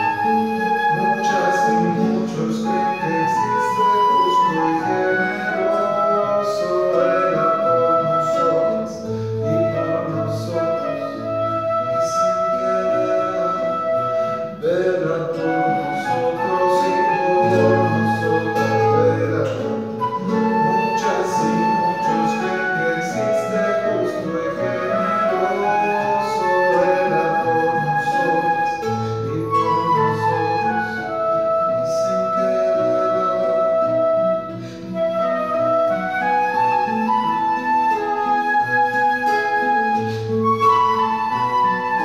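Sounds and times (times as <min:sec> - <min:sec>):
classical guitar: 0:00.0 - 0:42.0
flute: 0:00.0 - 0:42.0
man singing: 0:00.0 - 0:42.0.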